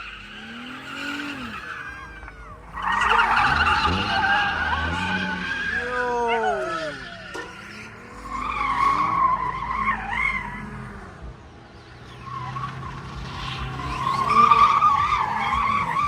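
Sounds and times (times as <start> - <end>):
car engine running: 0.0 - 16.0
car tyres squealing: 0.0 - 16.0.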